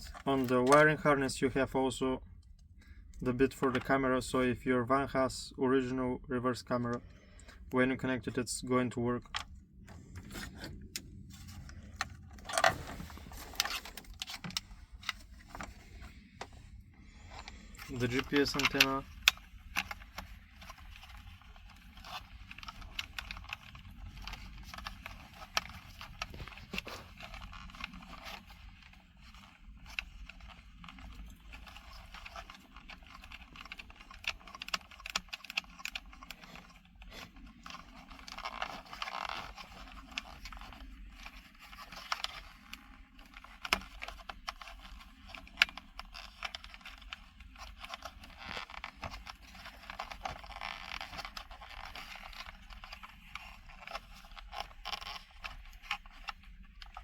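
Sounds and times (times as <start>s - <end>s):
cables scraping and rustling: 0.0s - 1.9s, 6.7s - 57.0s.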